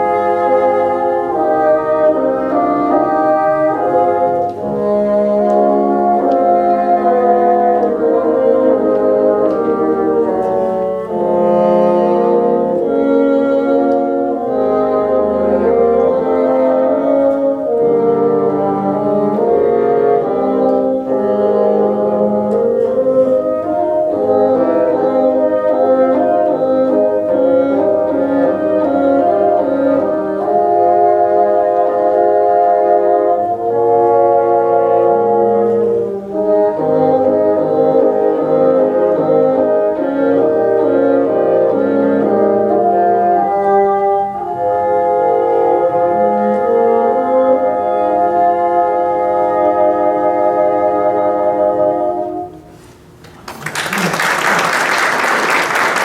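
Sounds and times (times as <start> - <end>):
bassoon ensemble playing: 0.0 - 53.2, 53.9 - 56.0.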